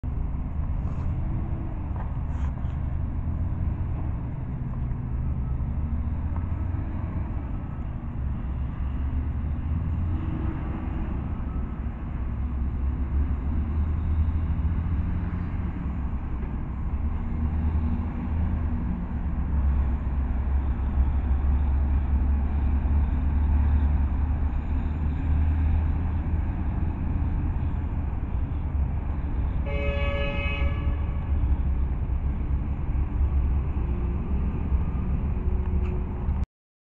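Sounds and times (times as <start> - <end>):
tanker truck driving: 0.0 - 36.4
road traffic rumble: 0.0 - 36.5.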